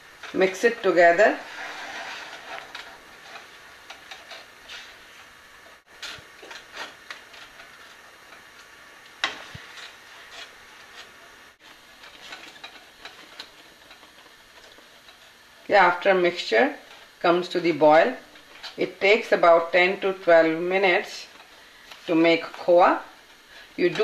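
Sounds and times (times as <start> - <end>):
spatula scraping a pan: 0.0 - 24.0.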